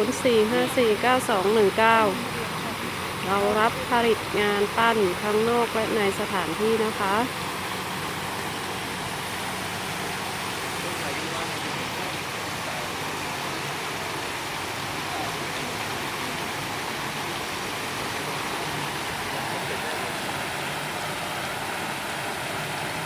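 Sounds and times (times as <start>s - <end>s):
water falling over rocks: 0.0s - 23.0s.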